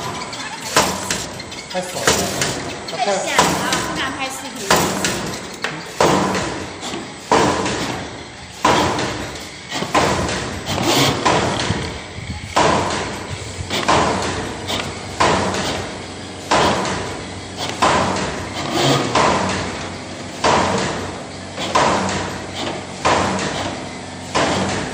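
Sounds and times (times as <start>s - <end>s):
machine clanking metallic knocks: 0.0s - 24.9s.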